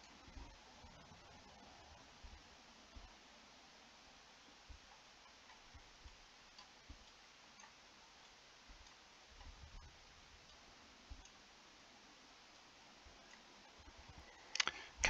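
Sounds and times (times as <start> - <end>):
faint microphone hiss: 0.0 - 15.0.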